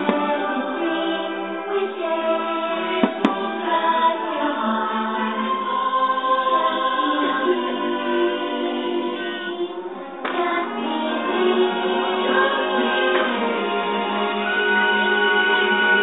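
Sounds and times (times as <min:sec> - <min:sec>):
choir singing sustained notes: 0:00.0 - 0:16.0
orchestral music: 0:00.0 - 0:16.0.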